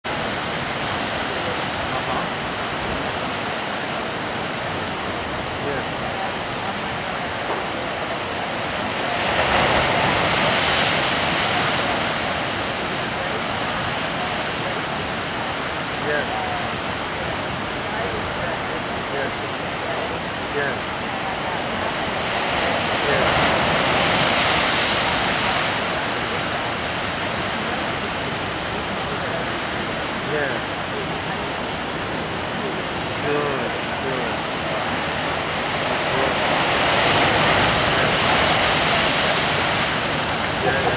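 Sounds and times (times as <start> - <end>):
ocean surf washing in: 0.0 - 40.9
sea water rushing: 0.0 - 40.9
wind: 0.0 - 40.9.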